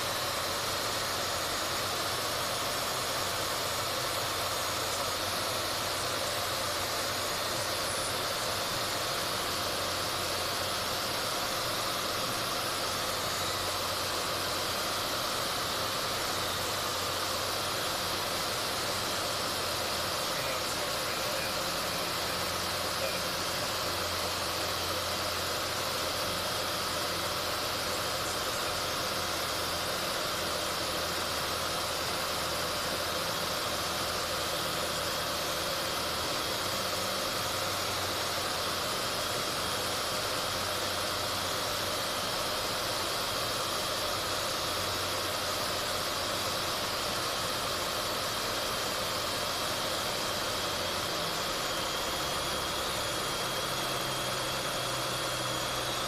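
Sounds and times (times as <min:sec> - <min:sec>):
low airplane engine drone: 0:00.0 - 0:56.0.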